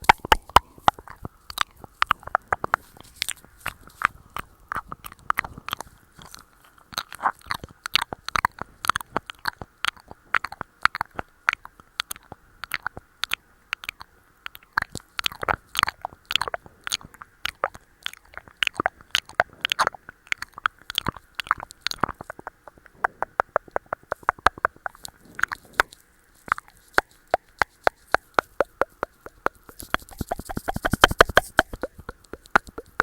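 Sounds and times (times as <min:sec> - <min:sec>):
wet mouth clicks and pops: 0:00.0 - 0:33.0.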